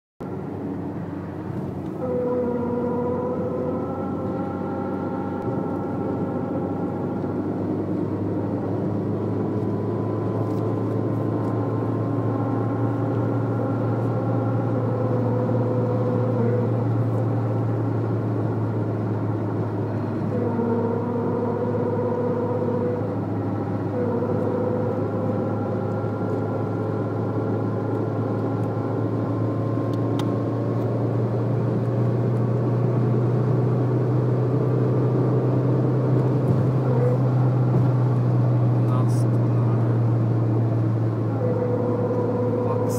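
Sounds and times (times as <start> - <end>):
car engine and road drone: 0.2 - 42.9
pitched hum from car: 0.2 - 42.9.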